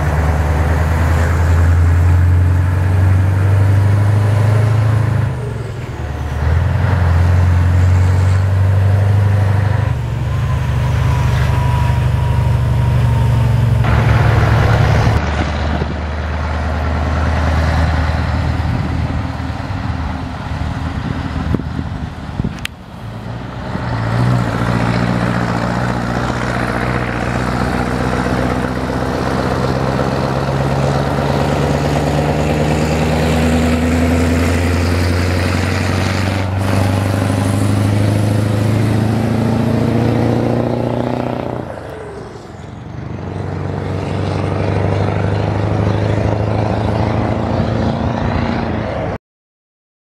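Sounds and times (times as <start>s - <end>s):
diesel truck engine under load: 0.0s - 49.2s.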